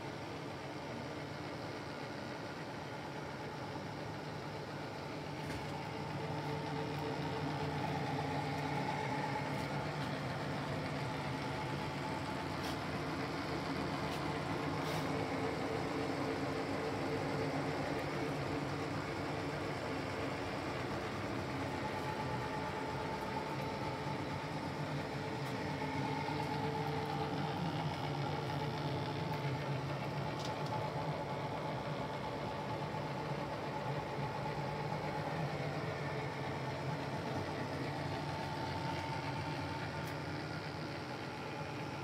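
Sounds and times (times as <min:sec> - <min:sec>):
milling machine running: 0:05.0 - 0:42.0.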